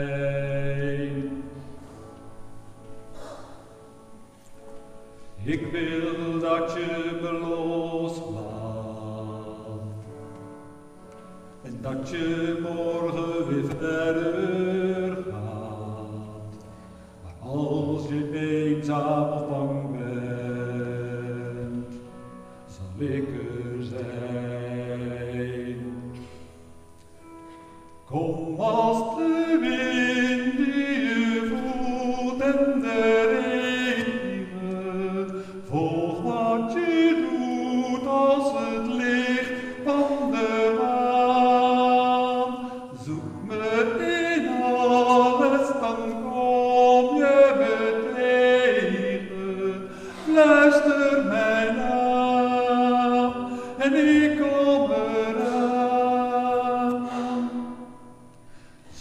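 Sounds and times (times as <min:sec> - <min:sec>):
man singing: 0:00.0 - 0:01.8, 0:05.3 - 0:10.3, 0:11.6 - 0:26.3, 0:28.0 - 0:58.0.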